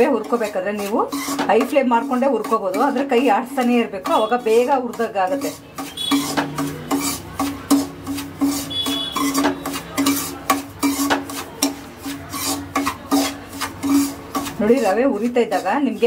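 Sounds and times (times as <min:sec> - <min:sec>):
metal spoon scraping a pan: 0:00.0 - 0:16.0.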